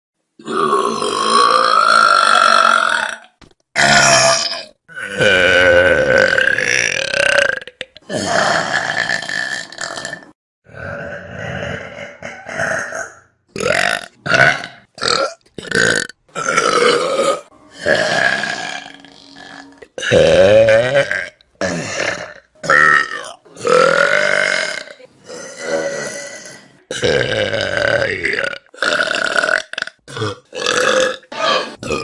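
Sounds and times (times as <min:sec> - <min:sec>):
people burping: 0:00.4 - 0:32.0.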